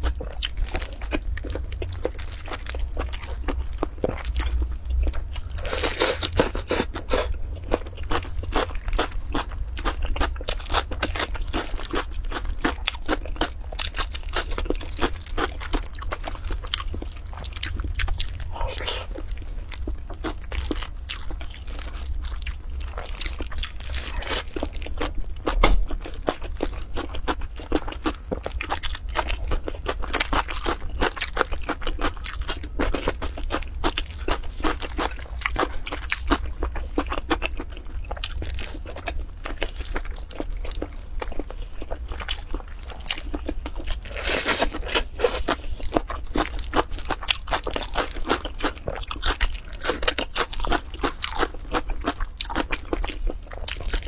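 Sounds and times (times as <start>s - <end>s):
person chewing wetly: 0.0s - 54.0s.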